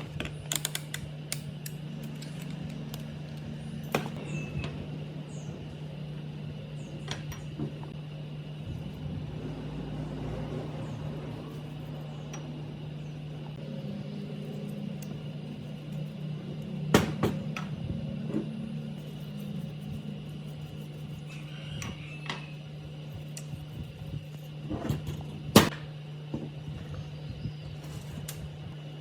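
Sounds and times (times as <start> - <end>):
machine electric hum: 0.0 - 29.0.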